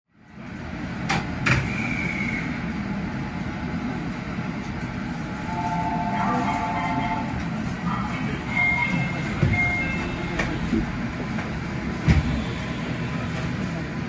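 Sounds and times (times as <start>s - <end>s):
electric train low hum: 0.2s - 14.0s.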